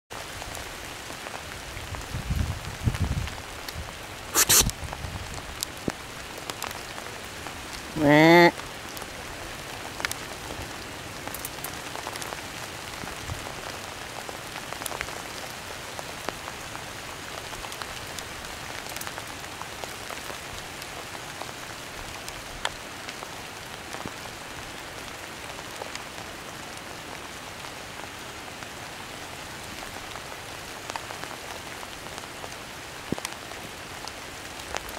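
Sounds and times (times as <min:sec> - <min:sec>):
rain on dry leaves: 0:00.1 - 0:34.9.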